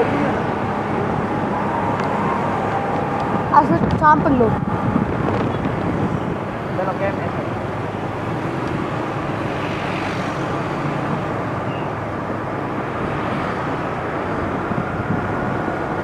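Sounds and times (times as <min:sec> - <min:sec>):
tyres on road: 0:00.0 - 0:16.0
vehicle engines running: 0:00.0 - 0:16.0.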